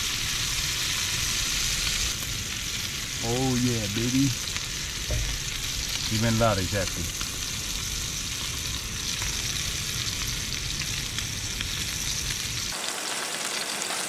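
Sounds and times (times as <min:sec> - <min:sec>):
steak sizzling in a skillet: 0:00.0 - 0:14.0
low background rumble: 0:00.3 - 0:12.7.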